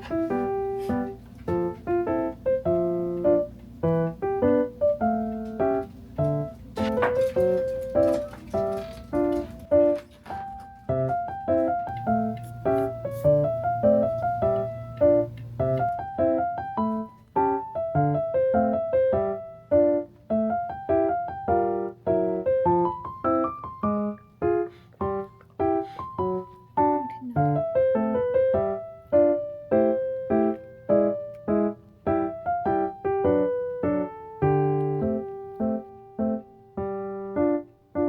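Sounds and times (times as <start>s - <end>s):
bouncy piano tune: 0.0s - 38.0s.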